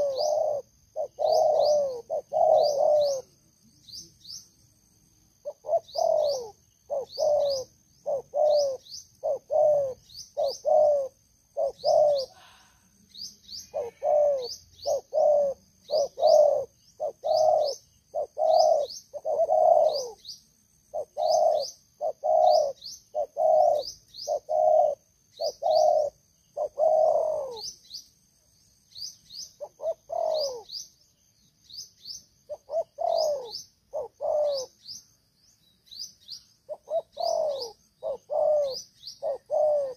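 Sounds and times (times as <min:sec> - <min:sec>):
dove cooing: 0:00.0 - 0:03.4, 0:05.4 - 0:12.8, 0:13.5 - 0:27.8, 0:29.4 - 0:30.9, 0:32.4 - 0:35.0, 0:36.7 - 0:39.9.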